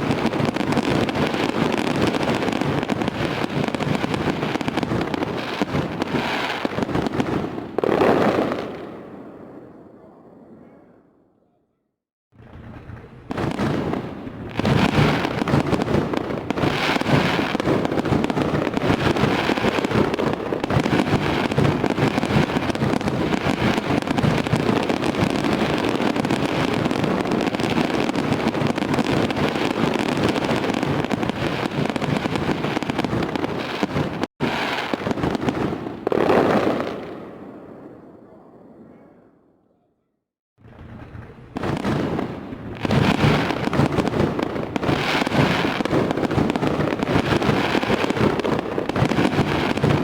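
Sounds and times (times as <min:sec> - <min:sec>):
fireworks crackling and banging: 0:00.0 - 0:10.5, 0:12.3 - 0:38.0, 0:40.6 - 0:50.0.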